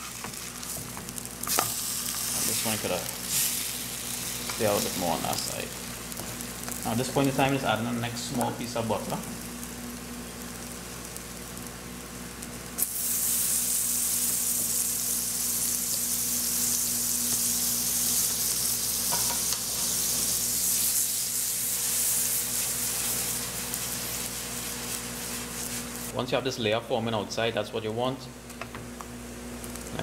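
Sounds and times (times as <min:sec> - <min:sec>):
butter sizzling in a frying pan: 0:00.0 - 0:26.1.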